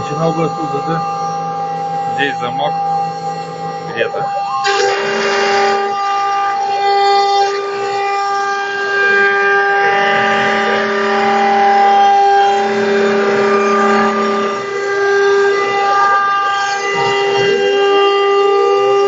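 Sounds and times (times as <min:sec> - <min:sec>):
machine motors whining: 0:00.0 - 0:19.0.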